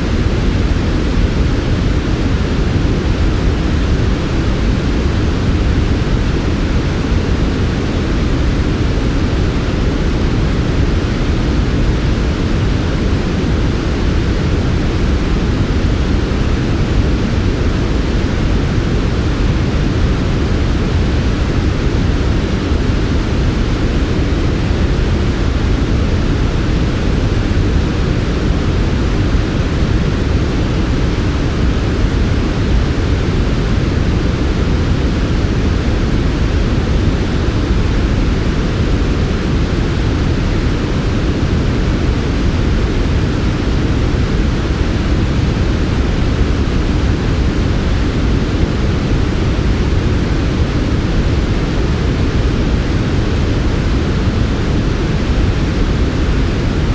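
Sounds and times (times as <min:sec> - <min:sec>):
smoothed white noise hiss: 0:00.0 - 0:56.9.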